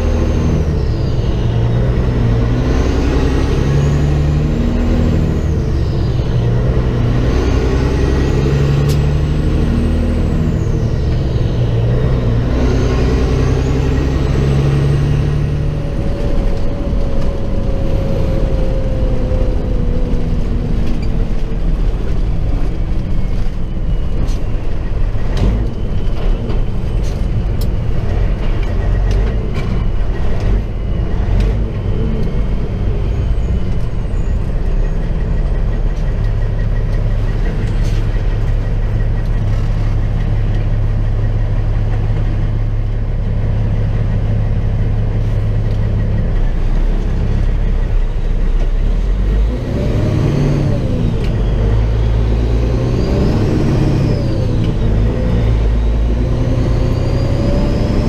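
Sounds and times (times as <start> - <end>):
road rumble: 0.0 - 58.0
truck diesel engine running: 0.0 - 58.0.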